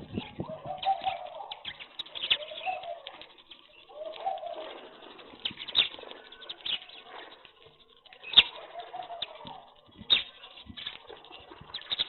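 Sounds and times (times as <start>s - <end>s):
pigeons clicking and chirping: 0.0s - 12.0s
pigeons cooing: 0.0s - 12.0s.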